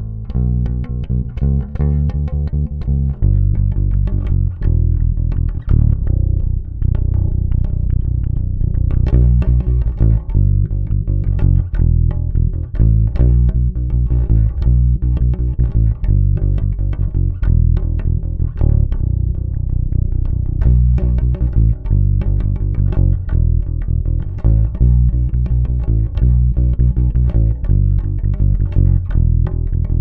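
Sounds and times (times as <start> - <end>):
electric bass plucked riff: 0.0 - 30.0.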